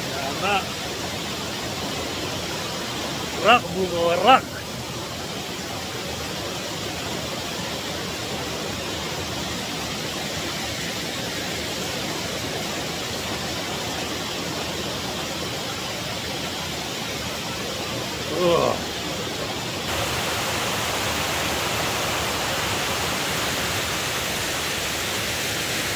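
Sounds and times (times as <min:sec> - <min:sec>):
water rushing down a spillway: 0:00.0 - 0:25.9.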